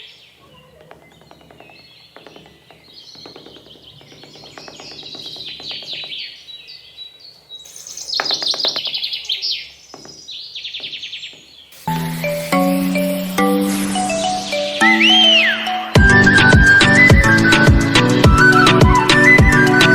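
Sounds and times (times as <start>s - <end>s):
birds chirping and singing: 0.0s - 19.9s.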